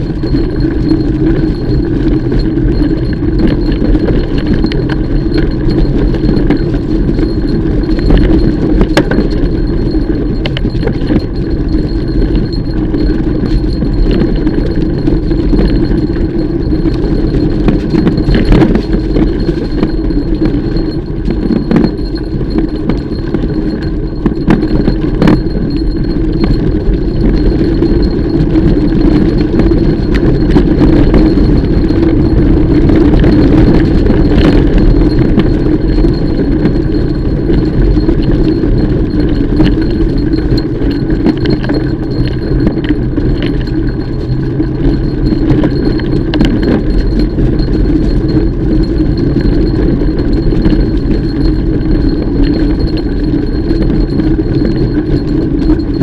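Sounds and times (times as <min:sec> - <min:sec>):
bike rattling and knocking: 0:00.0 - 0:56.0
bike tyres rumbling on dirt: 0:00.0 - 0:56.0
wind: 0:00.0 - 0:56.0.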